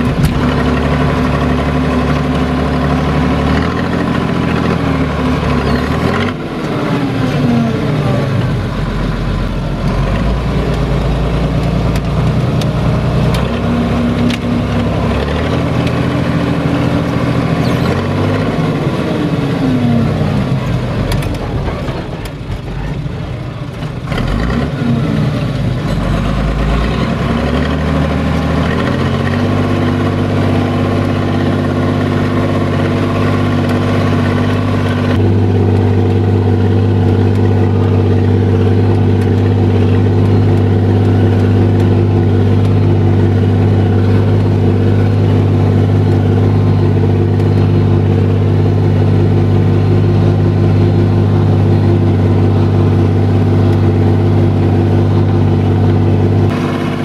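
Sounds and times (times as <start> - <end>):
tractor engine revving from cab: 0.0 - 57.0.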